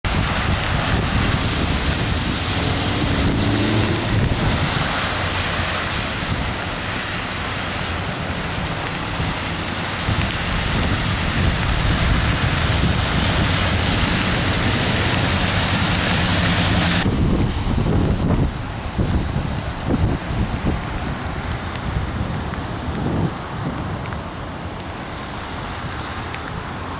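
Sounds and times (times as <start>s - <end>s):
wind buffeting microphone: 0.1s - 7.1s, 7.8s - 26.9s
cars driving through floodwater: 0.1s - 26.9s
heavy rain hissing: 0.1s - 26.9s.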